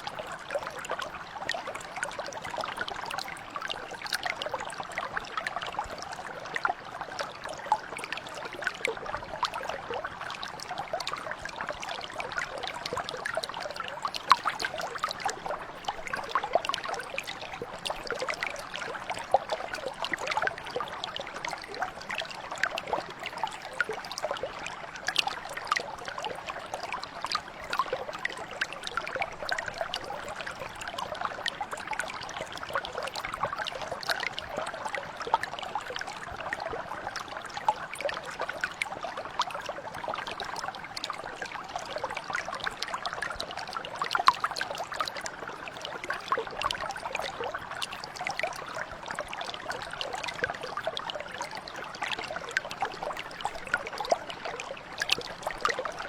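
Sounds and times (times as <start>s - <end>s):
brook trickling over stones: 0.0s - 56.0s.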